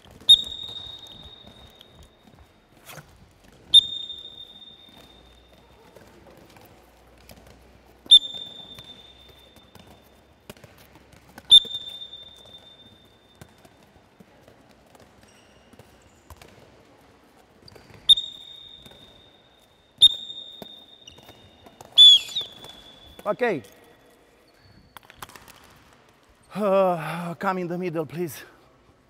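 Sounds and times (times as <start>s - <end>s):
ball bouncing on hall floor: 0.0s - 26.5s.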